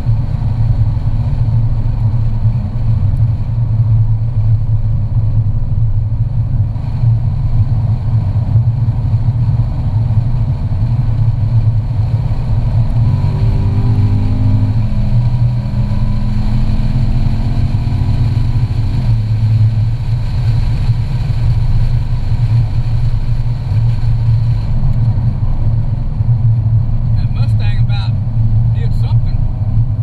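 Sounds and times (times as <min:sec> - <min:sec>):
car engine revving: 0:00.0 - 0:30.0
road noise: 0:00.0 - 0:30.0.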